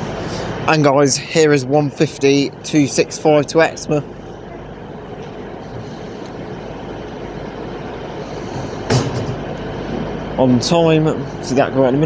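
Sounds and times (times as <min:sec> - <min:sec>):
diesel train idling: 0:00.0 - 0:12.0.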